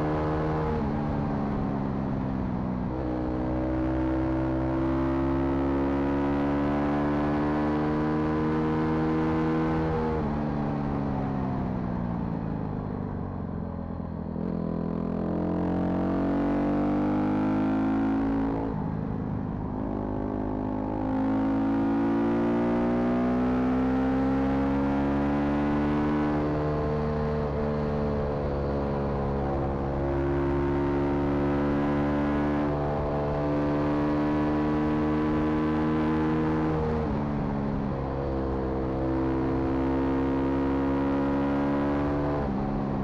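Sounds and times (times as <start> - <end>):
car engine while driving: 0.0 - 43.0.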